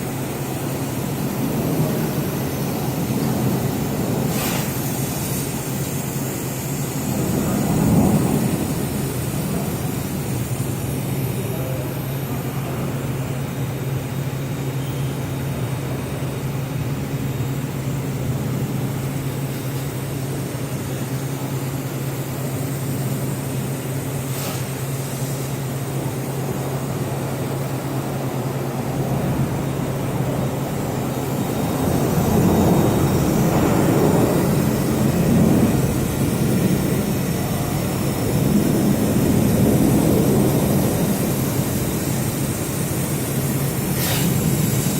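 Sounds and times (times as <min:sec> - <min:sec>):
low electrical hum: 0:00.0 - 0:44.9
rushing hiss: 0:00.0 - 0:44.9.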